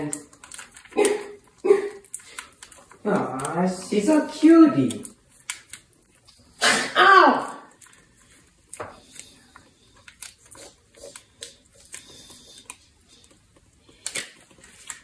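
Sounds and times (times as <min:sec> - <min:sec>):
plastic pouch crinkling and squishing: 0:00.0 - 0:06.6, 0:07.7 - 0:15.0.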